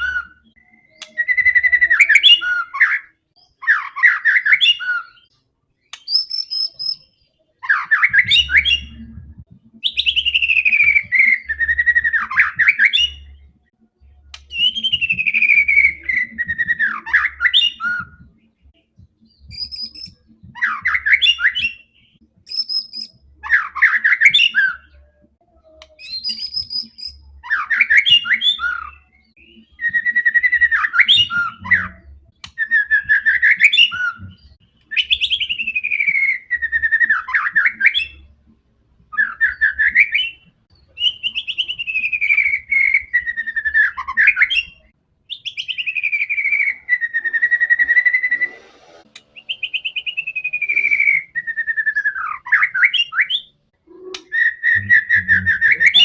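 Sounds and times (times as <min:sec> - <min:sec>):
bird singing whistles and trills: 0:00.0 - 0:38.4, 0:39.1 - 0:56.0.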